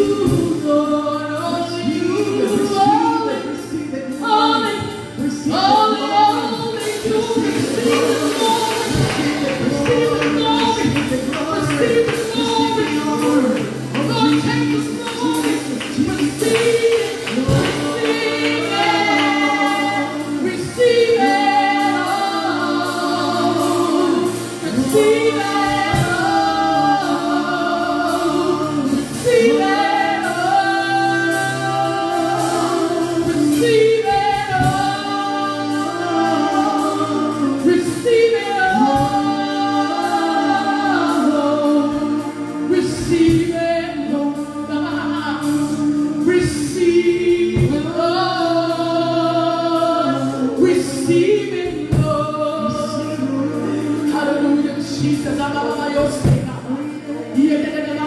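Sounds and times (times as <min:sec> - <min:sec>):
choir singing gospel music: 0:00.0 - 0:58.0
sustained accompaniment: 0:00.0 - 0:58.0.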